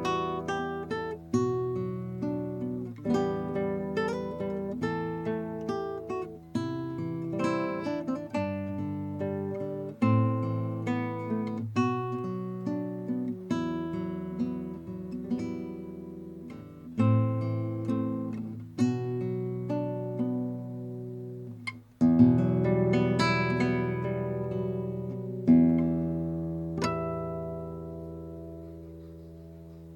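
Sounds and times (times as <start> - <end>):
fingerstyle classical guitar: 0.0 - 29.9.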